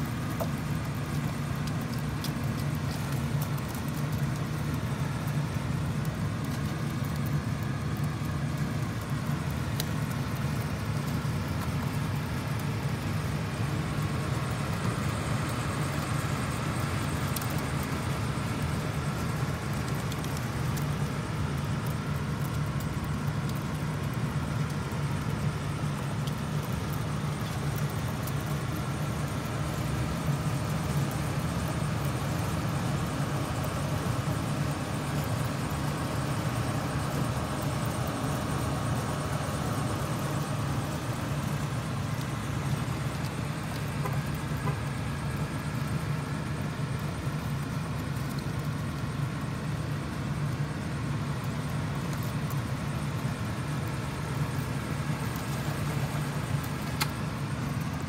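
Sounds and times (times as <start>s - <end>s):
air conditioning unit humming: 0.0s - 58.0s.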